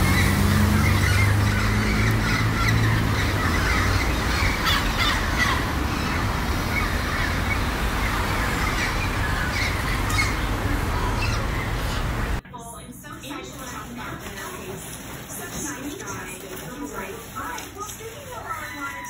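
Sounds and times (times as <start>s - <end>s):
birds calling and chattering: 0.0s - 12.4s, 13.6s - 19.0s.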